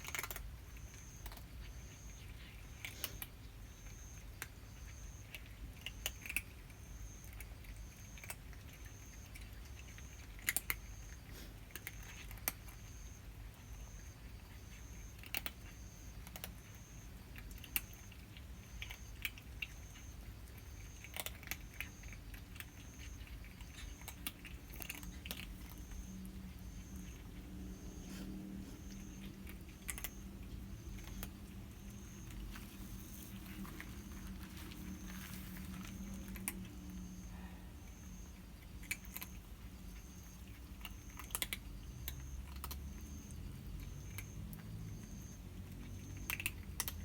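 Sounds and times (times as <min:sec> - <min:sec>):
cats crunching dry food: 0:00.0 - 0:47.0.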